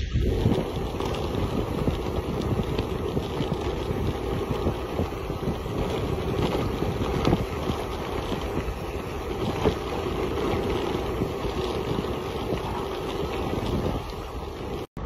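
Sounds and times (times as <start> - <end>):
bicycle tyres rolling on gravel: 0.0 - 14.9
stones crackling under wheels: 0.0 - 14.9
wind buffeting microphone: 0.0 - 15.0.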